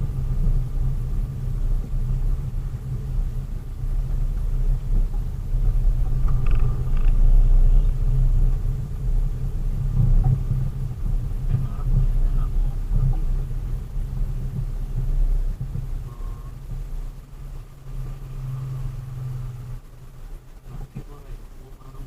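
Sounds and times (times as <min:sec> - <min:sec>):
road noise: 0:00.0 - 0:22.0
vehicle engine rumble: 0:00.0 - 0:22.0.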